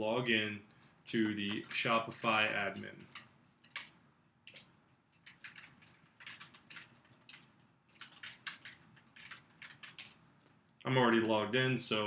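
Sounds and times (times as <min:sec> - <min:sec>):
faint keyboard typing: 0:00.7 - 0:10.8.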